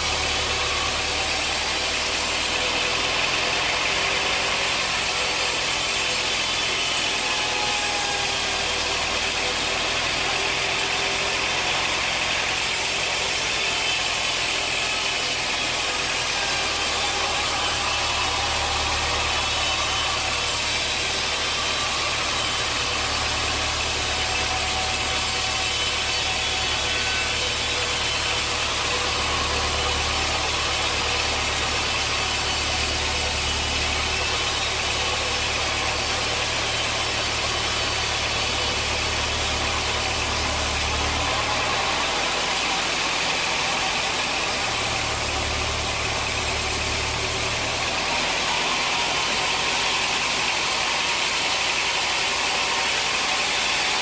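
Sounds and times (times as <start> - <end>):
sawmill machinery whine: 0.0 - 54.0.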